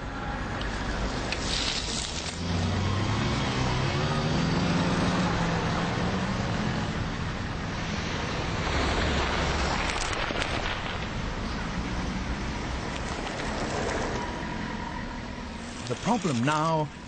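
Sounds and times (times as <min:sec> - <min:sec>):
cars driving past: 0:00.0 - 0:17.0
vehicle engine pulling away: 0:00.8 - 0:16.6.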